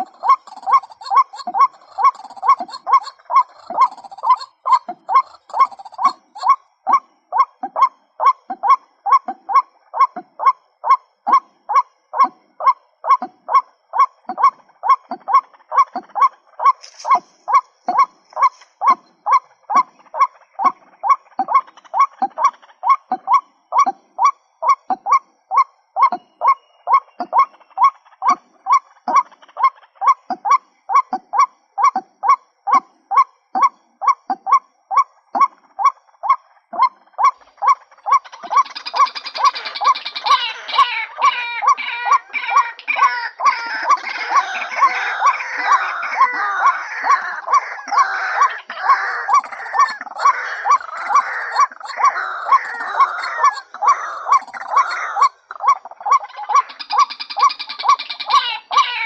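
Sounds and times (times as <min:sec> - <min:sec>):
waterhen short kwak calls: 0:00.0 - 0:32.0, 0:36.8 - 0:59.0
harsh overlapping croaking calls: 0:00.0 - 0:59.0.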